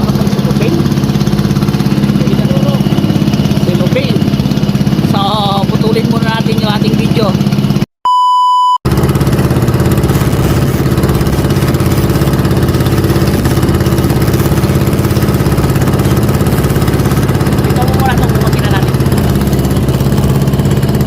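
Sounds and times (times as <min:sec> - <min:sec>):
small boat engine running: 0:00.0 - 0:07.9, 0:08.9 - 0:21.0.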